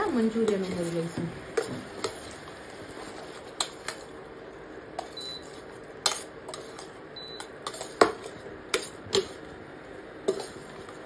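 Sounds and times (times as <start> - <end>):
metal spoon scraping pan: 0.3 - 4.1, 5.0 - 9.4, 10.2 - 11.0.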